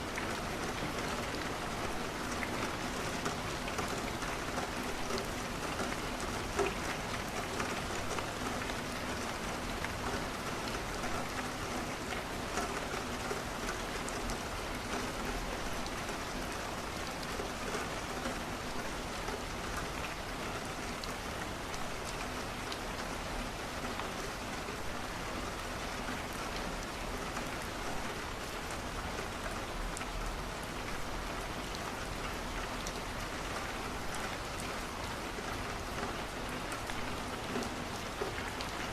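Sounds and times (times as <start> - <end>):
rain falling on a window: 0.0 - 38.9.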